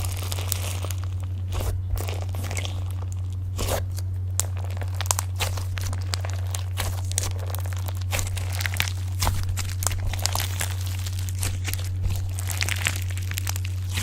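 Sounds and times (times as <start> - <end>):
slime crackling and popping: 0.0 - 14.0
steady low hum: 0.0 - 14.0.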